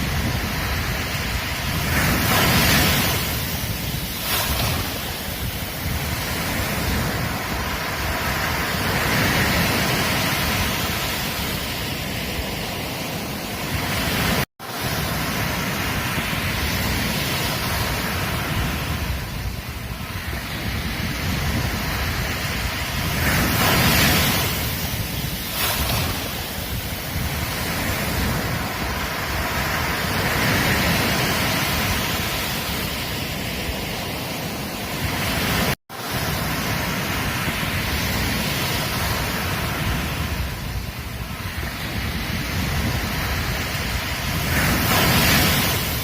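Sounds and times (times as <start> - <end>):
ocean waves breaking on beach: 0.0 - 46.0.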